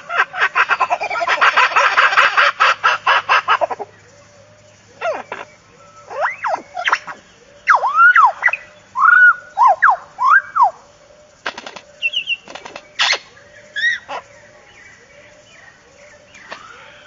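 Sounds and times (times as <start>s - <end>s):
swooping bird calls: 0.0s - 17.0s.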